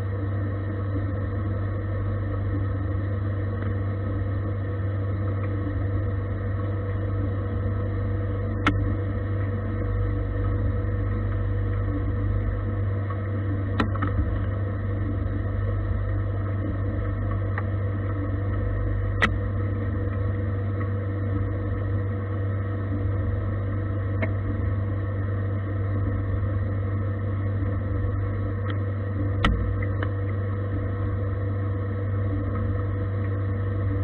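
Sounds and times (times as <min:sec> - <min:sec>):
lathe hum and whine: 0:00.0 - 0:34.0.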